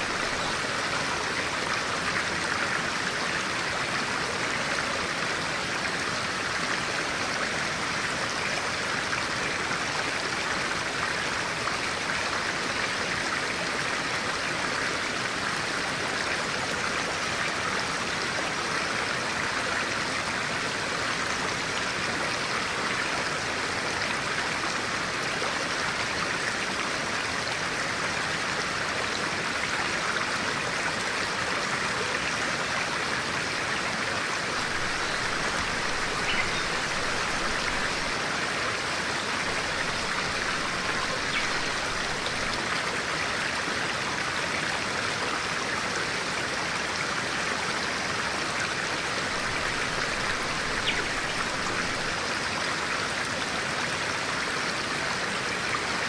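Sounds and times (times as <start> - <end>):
stream of water running: 0.0 - 56.0.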